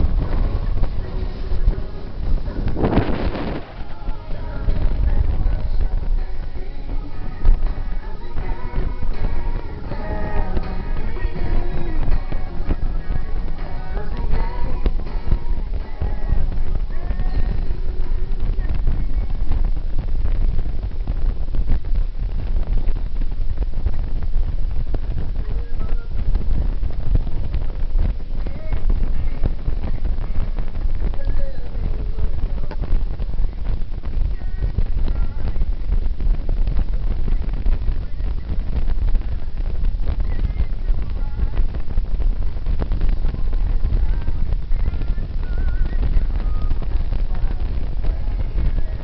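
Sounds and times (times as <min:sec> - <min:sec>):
road noise: 0:00.0 - 0:49.0
wind buffeting microphone: 0:00.0 - 0:49.0.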